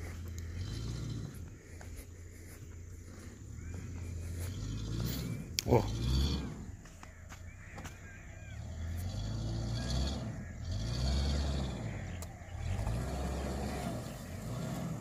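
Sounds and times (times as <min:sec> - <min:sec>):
bird calls: 0:00.0 - 0:15.0
car engine rumbling: 0:00.0 - 0:15.0.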